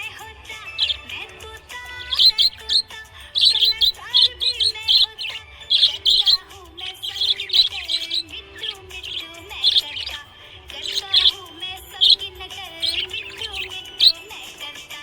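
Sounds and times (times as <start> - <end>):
budgie chirping: 0.0 - 14.6.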